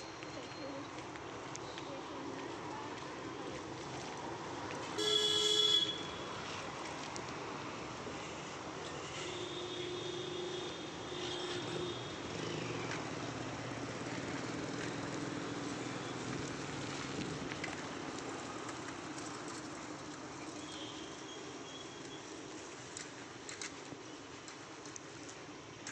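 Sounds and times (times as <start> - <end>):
distant vehicle traffic: 0.0 - 25.9.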